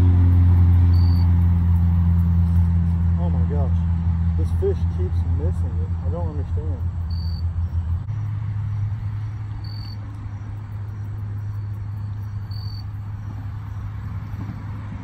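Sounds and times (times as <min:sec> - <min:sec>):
steady low hum: 0:00.0 - 0:15.0
insect chirp: 0:00.2 - 0:15.0.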